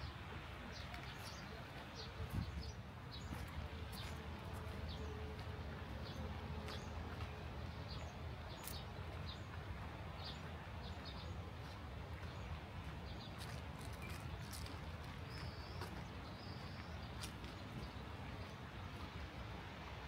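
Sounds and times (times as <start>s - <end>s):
small birds chirping: 0.7s - 5.2s, 6.0s - 18.6s.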